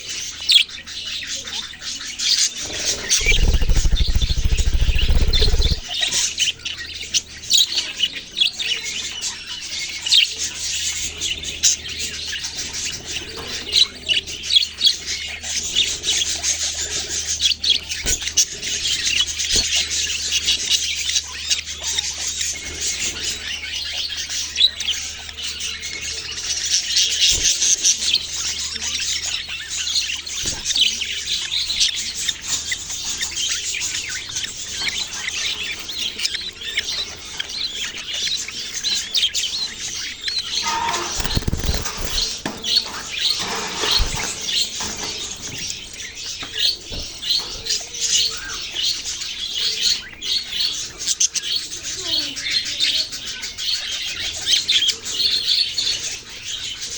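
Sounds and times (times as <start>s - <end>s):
small parrots chirping and chattering: 0.0s - 56.9s.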